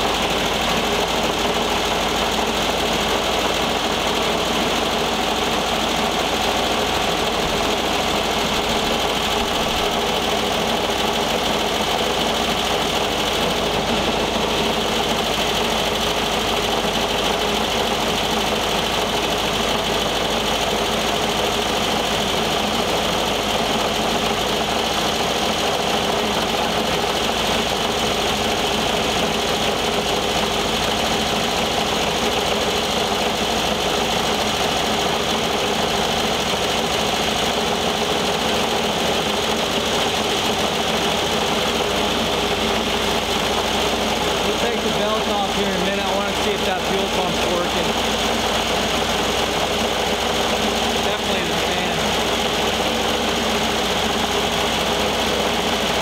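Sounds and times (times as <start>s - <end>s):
car engine running steadily: 0.0s - 56.0s.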